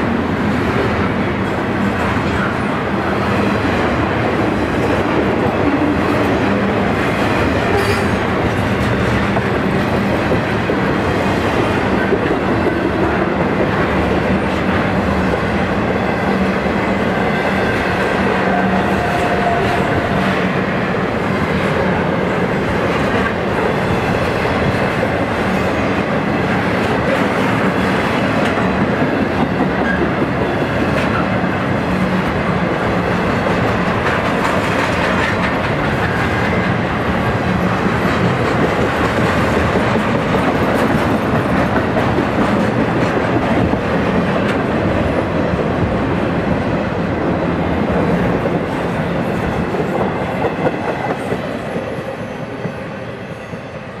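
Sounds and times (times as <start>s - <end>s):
clickety-clack over rail joints: 0.0s - 52.9s
freight train wheels on rail: 0.0s - 54.0s.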